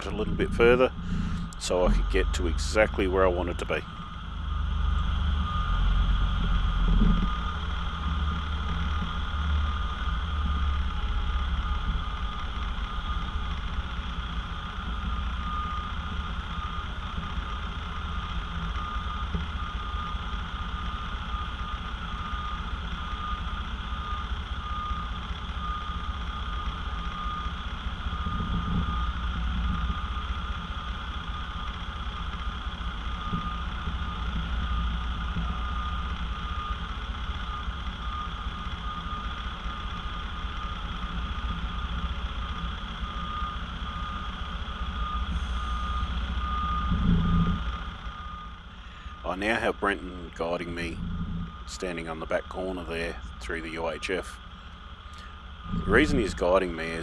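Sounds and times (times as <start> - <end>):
reversing alarm beeping: 0.0 - 57.0
truck diesel engine running: 0.0 - 57.0.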